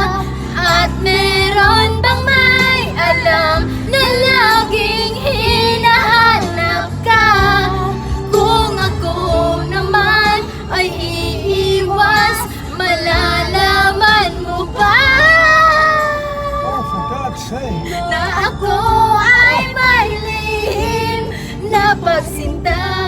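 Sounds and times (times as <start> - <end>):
woman singing with vibrato: 0.0 - 17.1, 17.9 - 23.0
instrumental backing music: 0.0 - 23.0.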